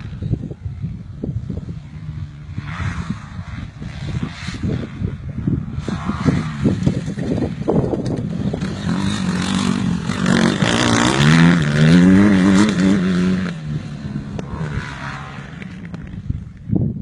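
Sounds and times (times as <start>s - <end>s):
motocross bike engine revving: 1.6s - 16.3s.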